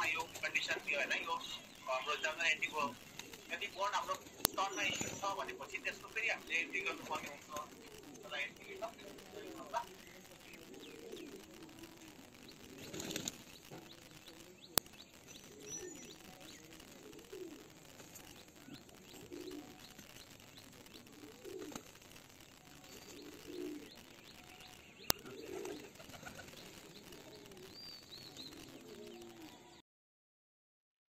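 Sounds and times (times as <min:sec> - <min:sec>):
pigeons cooing: 0:00.0 - 0:22.0, 0:22.6 - 0:29.8.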